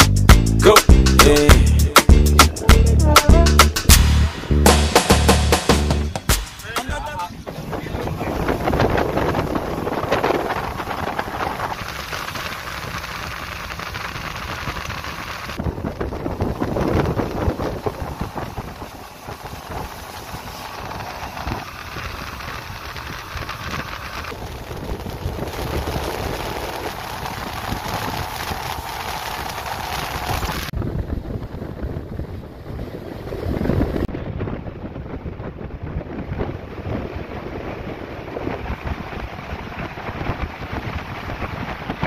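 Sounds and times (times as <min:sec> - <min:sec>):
boat engine drone: 0:00.0 - 0:42.0
wind buffeting microphone: 0:06.9 - 0:42.0
rush of wake and spray: 0:07.0 - 0:42.0.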